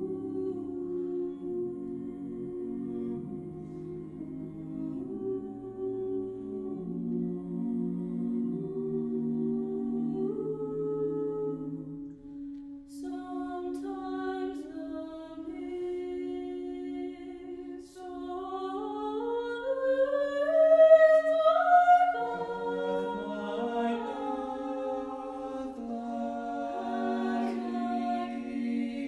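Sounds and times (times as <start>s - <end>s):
choir singing a cappella: 0.0s - 29.0s.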